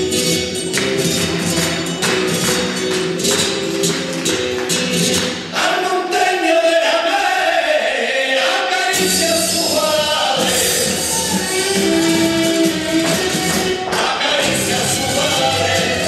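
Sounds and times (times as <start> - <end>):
rhythmic percussive strokes: 0.0 - 5.8, 8.9 - 16.0
person singing flamenco: 0.9 - 16.0.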